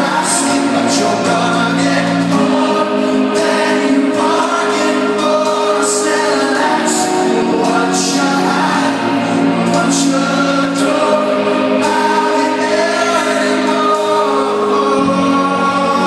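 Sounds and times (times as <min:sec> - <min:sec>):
person singing: 0:00.0 - 0:16.0
rock band playing live: 0:00.0 - 0:16.0.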